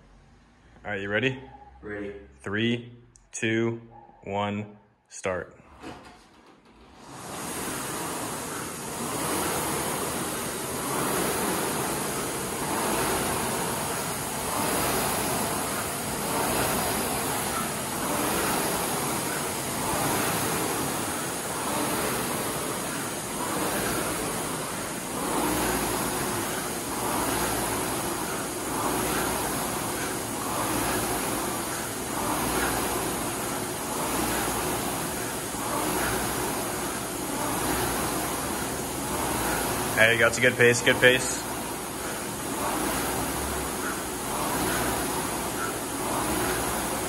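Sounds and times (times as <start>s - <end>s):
rowing machine flywheel whooshing: 5.6s - 47.0s.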